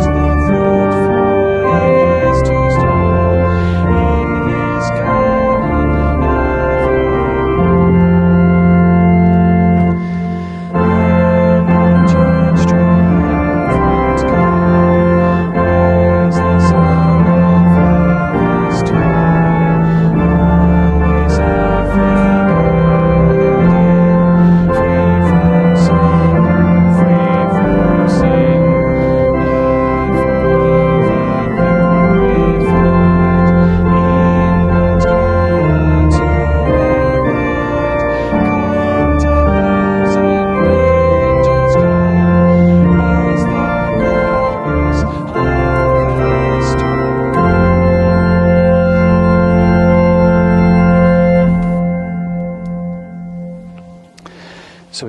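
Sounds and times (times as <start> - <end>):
organ playing held chords: 0.0 - 55.0.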